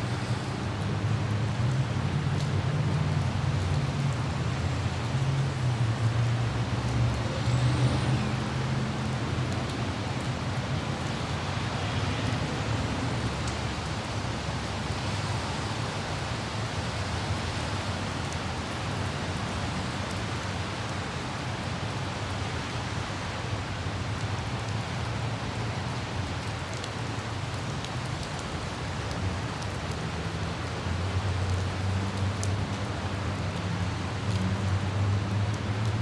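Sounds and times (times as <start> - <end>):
light rain hiss: 0.0 - 36.0
road traffic rumble: 0.0 - 36.0
wind: 0.0 - 36.0.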